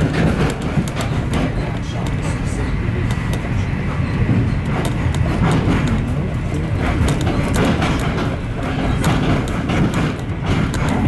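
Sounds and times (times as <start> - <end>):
train rumbling: 0.0 - 11.0
wheels clicking on rails: 0.0 - 11.0.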